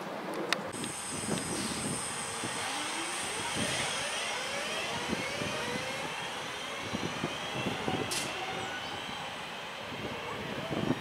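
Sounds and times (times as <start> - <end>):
electric train motors whining: 0.7 - 11.0.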